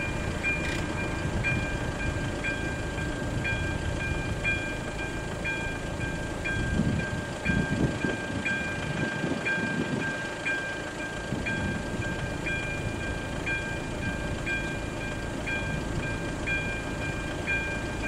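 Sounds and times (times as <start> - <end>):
level crossing warning bell: 0.0 - 18.0.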